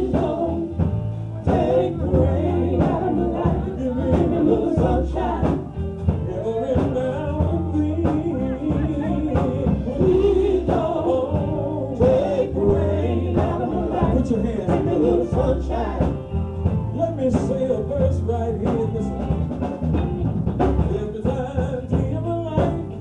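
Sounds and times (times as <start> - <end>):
singing: 0.0 - 19.4, 20.8 - 23.0
bass line: 0.0 - 23.0
gospel band playing: 0.0 - 23.0
steady drum beat: 0.0 - 23.0.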